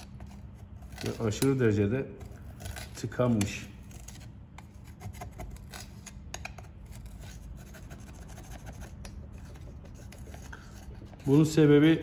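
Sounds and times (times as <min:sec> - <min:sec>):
tool scraping carbon in exhaust: 0:00.0 - 0:12.0.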